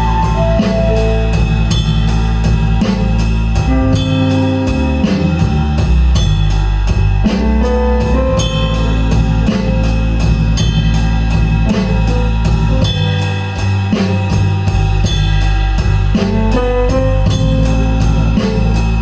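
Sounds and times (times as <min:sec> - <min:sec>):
blues-rock band playing: 0:00.0 - 0:06.3, 0:06.9 - 0:19.0
drum kit beat: 0:00.0 - 0:19.0
low bass line: 0:00.0 - 0:19.0.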